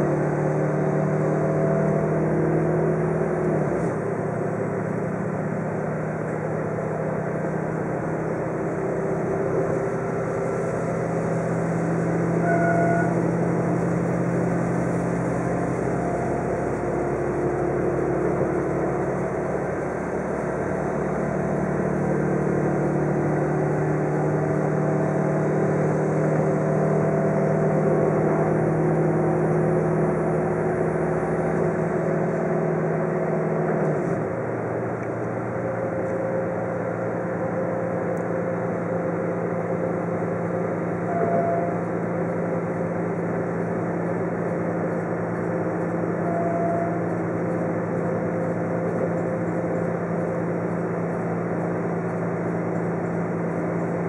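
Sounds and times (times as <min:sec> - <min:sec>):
rail running noise: 0:00.0 - 0:54.0
railcar engine drone: 0:00.0 - 0:54.0.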